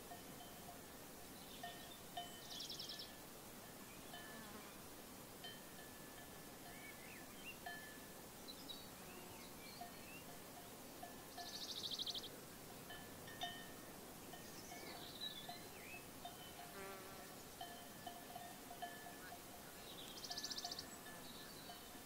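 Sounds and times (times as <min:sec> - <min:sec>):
sheep bells clinking: 0:00.0 - 0:04.5, 0:05.4 - 0:08.2, 0:09.7 - 0:22.0.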